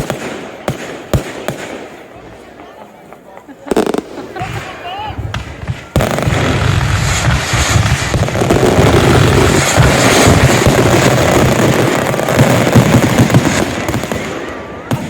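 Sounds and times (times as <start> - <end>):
fireworks bangs and crackle: 0.0 - 15.0.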